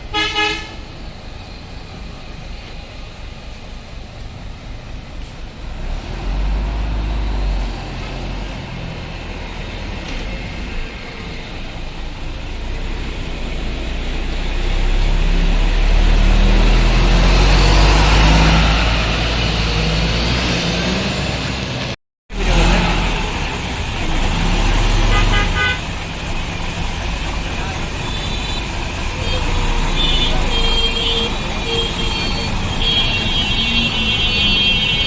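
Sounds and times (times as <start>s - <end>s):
diesel bus engine rumbling: 0.0s - 35.0s.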